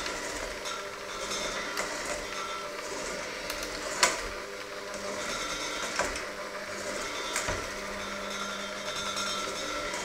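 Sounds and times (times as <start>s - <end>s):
electric hand mixer running: 0.0s - 10.0s.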